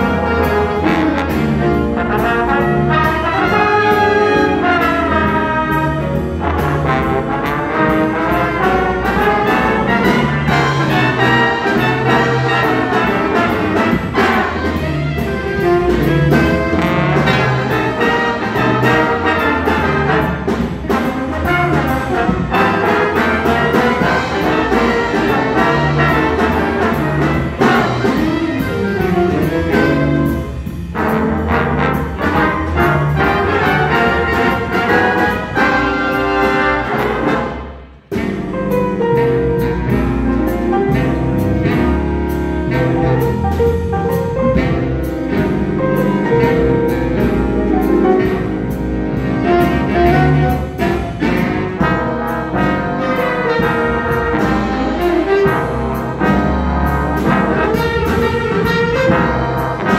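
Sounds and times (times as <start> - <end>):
steady bass line: 0.0 - 59.9
trombones playing together: 0.0 - 59.9.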